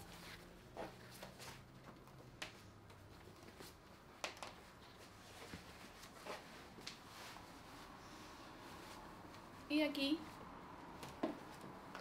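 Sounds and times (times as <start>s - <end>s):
faint fabric rustling: 0.0s - 11.9s.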